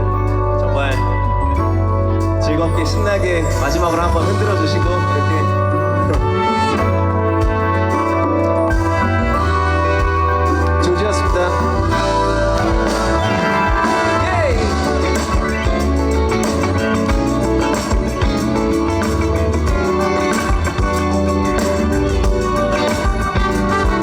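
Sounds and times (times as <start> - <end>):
guitar: 0.0 - 24.0
organ: 0.0 - 24.0
steady bass: 0.0 - 24.0.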